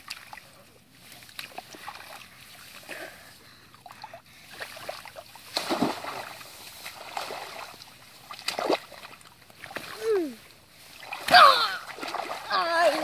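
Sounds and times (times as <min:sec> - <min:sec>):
wading through muddy water: 0:00.0 - 0:13.0.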